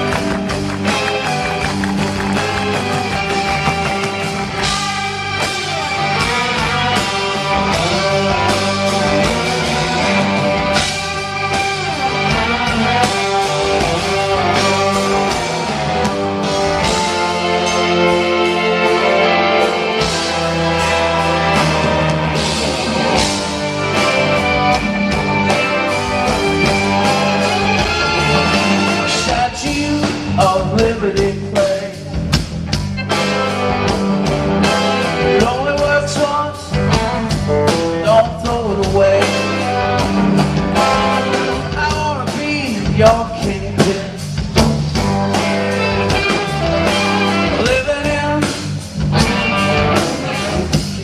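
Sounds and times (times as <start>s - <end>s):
electric guitars: 0.0s - 51.0s
rock band playing live: 0.0s - 51.0s.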